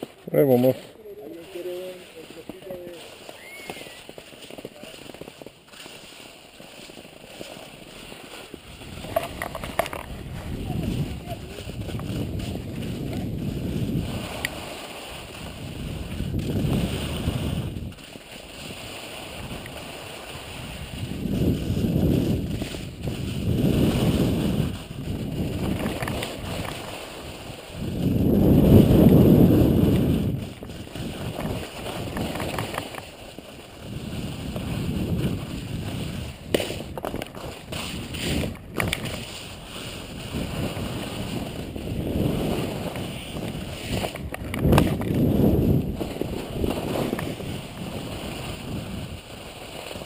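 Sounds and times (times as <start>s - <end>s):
skis hissing on snow: 0.0s - 50.0s
wind buffeting microphone: 8.6s - 18.0s, 18.6s - 50.0s.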